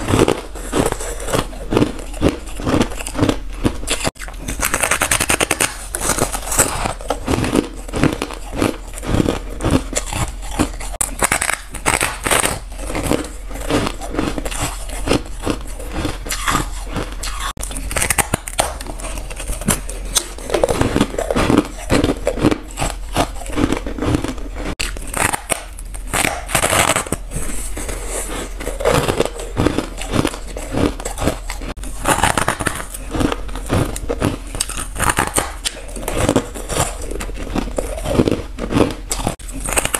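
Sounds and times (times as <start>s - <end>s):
ice being chewed crunching: 0.0s - 39.9s.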